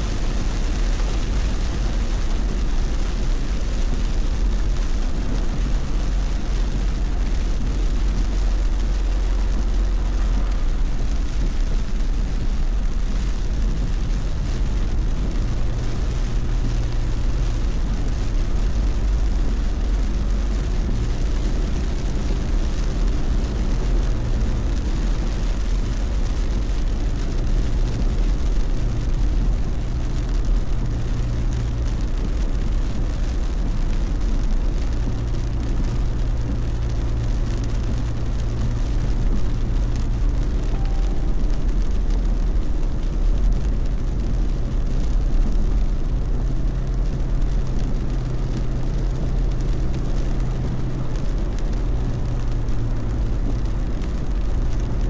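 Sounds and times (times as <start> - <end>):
car road and engine rumble: 0.0 - 55.0
rain and wet tyres hissing: 0.0 - 55.0.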